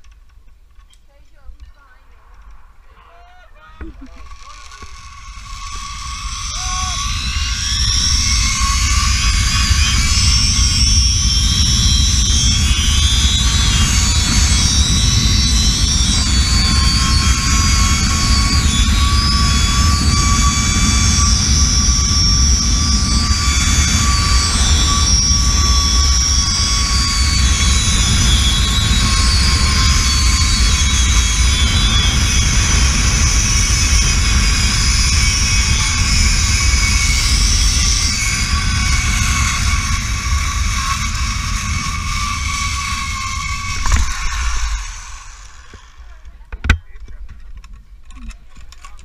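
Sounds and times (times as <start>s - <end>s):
pulley wheels whining on cable: 3.8s - 46.6s
wind rumble on microphone: 5.1s - 45.2s.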